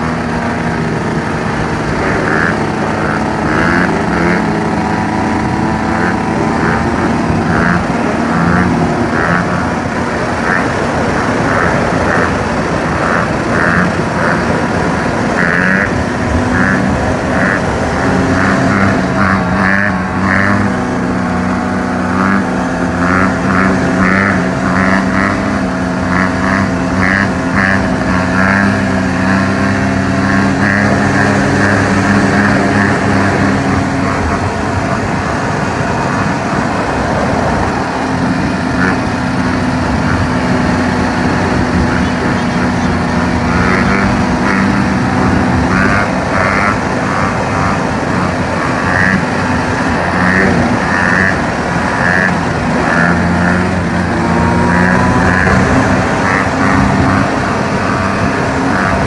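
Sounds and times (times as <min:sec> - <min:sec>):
dirt bike engine: 0:00.0 - 0:59.0
road noise: 0:00.0 - 0:59.0
wind noise: 0:00.0 - 0:59.0.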